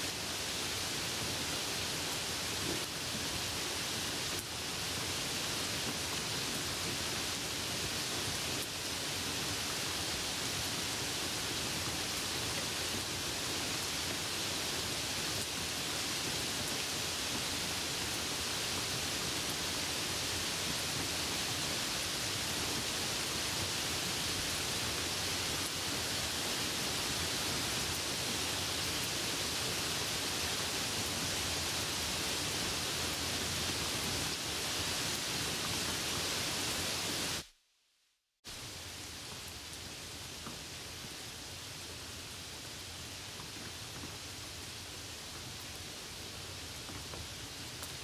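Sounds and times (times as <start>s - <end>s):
rain hissing: 0.0s - 37.6s, 38.4s - 48.0s.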